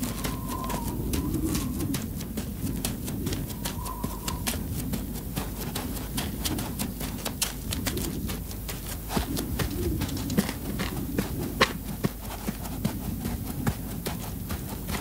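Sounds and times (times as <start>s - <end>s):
low rumble of noise: 0.0s - 15.0s.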